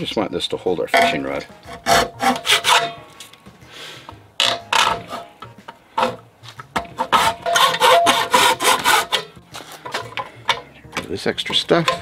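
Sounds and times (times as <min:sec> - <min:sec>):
hacksaw cutting plastic pipe: 0:01.0 - 0:03.0, 0:04.4 - 0:12.0.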